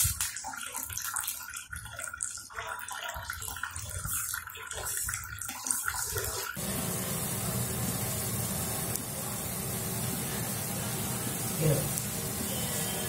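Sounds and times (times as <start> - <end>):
soup boiling and bubbling: 0.2 - 13.0.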